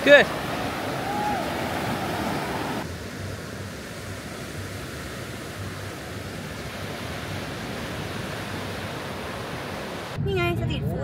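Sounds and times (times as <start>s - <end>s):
small waves washing on shore: 0.0s - 10.2s.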